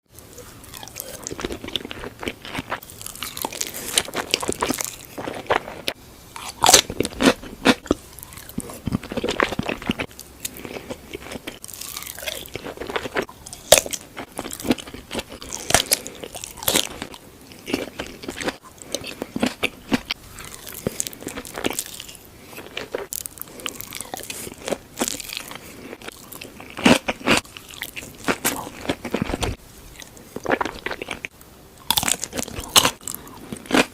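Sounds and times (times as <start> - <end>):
food crunching: 0.2 - 33.9
wet chewing: 0.3 - 33.9.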